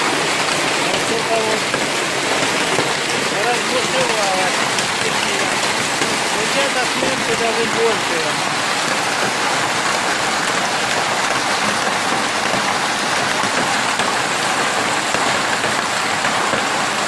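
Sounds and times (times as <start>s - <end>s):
heavy rain and hail: 0.0s - 17.0s.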